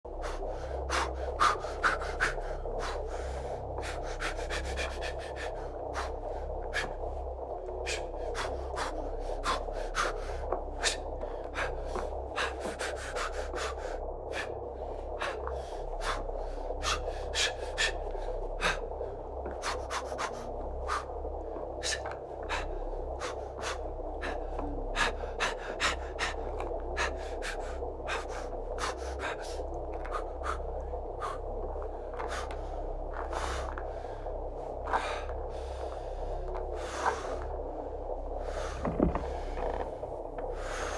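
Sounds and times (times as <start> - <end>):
low droning ambience: 0.0 - 40.9.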